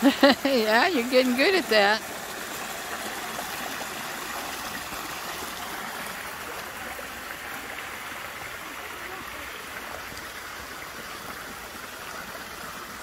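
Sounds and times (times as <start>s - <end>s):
creek water flowing over rocks: 0.0s - 13.0s.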